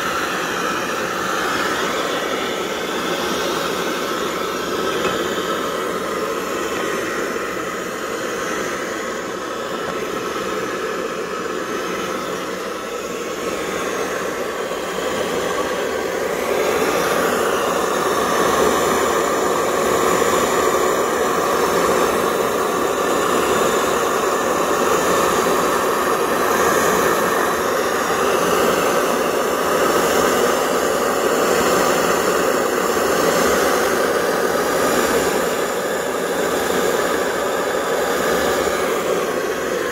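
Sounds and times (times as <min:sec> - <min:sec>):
stove burner rushing: 0:00.0 - 0:39.9.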